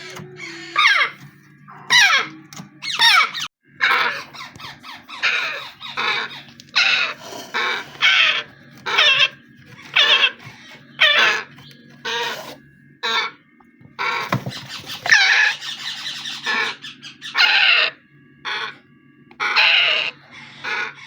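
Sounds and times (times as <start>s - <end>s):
parrot chicks raspy calls: 0.0s - 13.4s, 14.0s - 18.8s, 19.4s - 21.0s
low steady hum: 0.0s - 21.0s.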